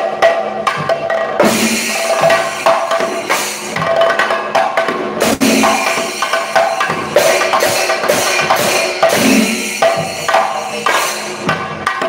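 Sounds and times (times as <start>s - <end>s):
drum ensemble playing: 0.0s - 12.0s.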